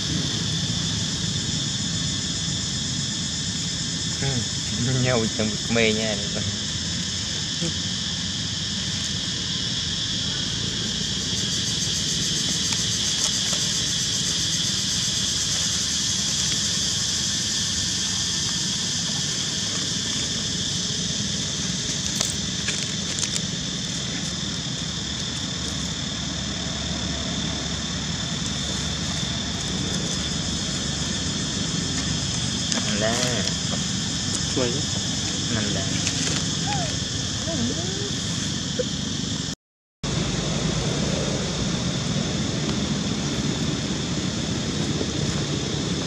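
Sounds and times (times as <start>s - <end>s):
high-pitched insect drone: 0.0s - 46.0s
low background rumble: 0.0s - 46.0s.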